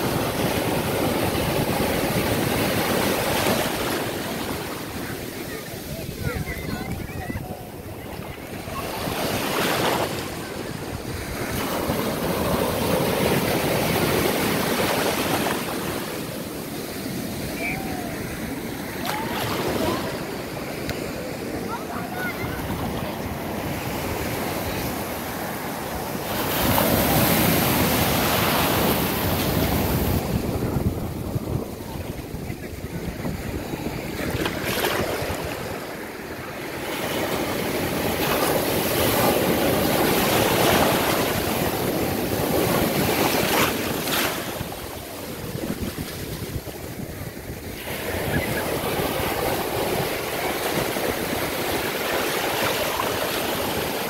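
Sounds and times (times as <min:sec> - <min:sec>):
surf washing up sand: 0:00.0 - 0:54.0.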